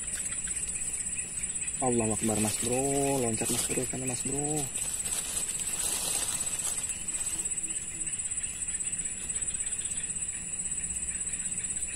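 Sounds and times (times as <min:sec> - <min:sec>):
insects buzzing: 0:00.0 - 0:11.9.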